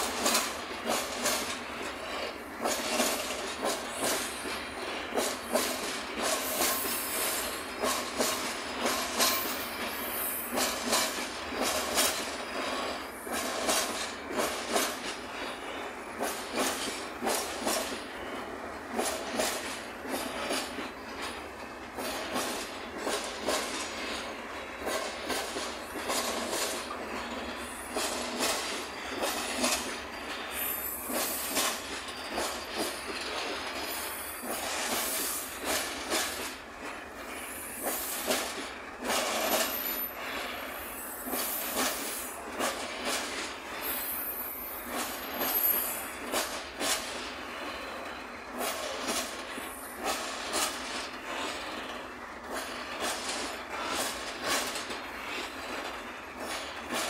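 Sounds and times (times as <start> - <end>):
train wheel squeals: 0.0 - 57.0
train wheels clacking on rail joints: 0.0 - 57.0.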